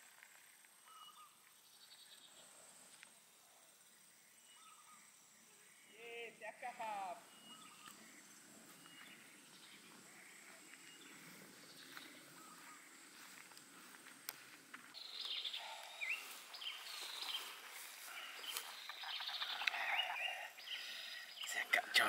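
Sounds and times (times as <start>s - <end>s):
faint high insect hum: 0.0s - 22.0s
low haze noise: 0.0s - 22.0s.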